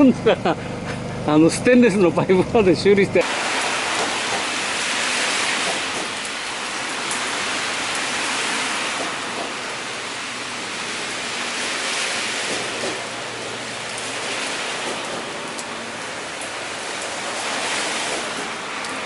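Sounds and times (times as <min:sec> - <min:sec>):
rain falling: 0:03.2 - 0:19.0
water dripping from drainpipe: 0:03.2 - 0:19.0.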